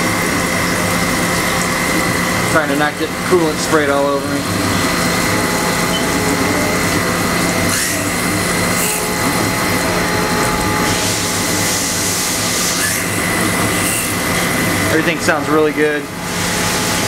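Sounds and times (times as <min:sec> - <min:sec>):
coolant spray hissing: 0:00.0 - 0:17.0
steady high machine tone: 0:00.0 - 0:17.0.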